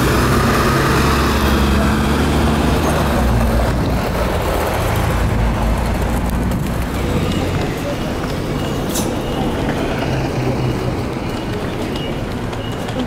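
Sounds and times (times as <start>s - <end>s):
bus diesel engine passing: 0.0s - 13.0s.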